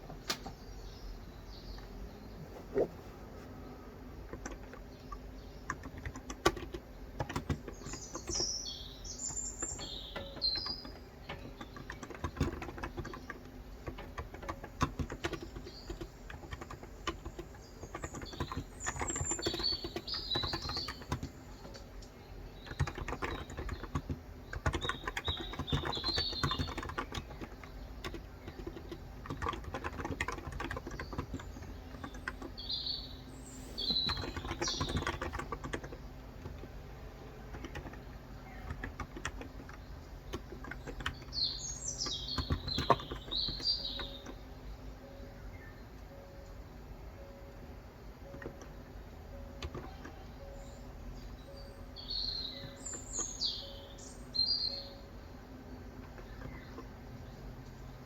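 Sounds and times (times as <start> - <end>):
birds chirping: 0.0 - 58.0
keyboard typing: 2.7 - 58.0.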